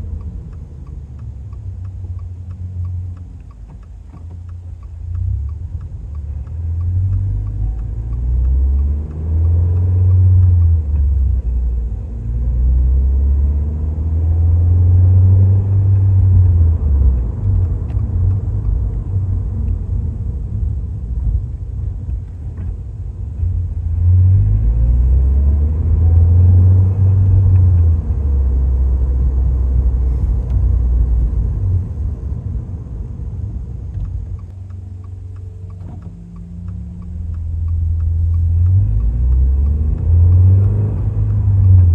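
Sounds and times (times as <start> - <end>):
car engine exhaust while driving: 0.0 - 41.9.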